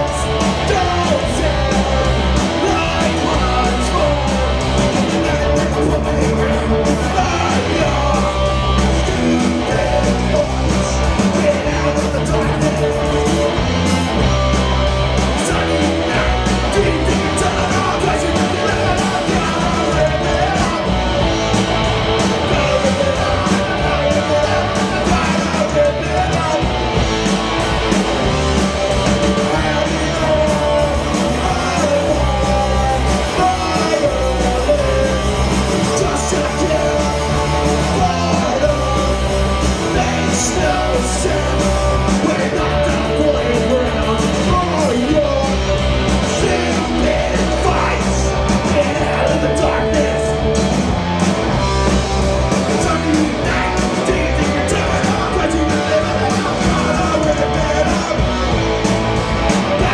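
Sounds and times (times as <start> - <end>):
person singing: 0.0 - 26.9, 29.1 - 50.5, 52.5 - 58.7, 59.6 - 59.9
punk rock band playing: 0.0 - 59.9.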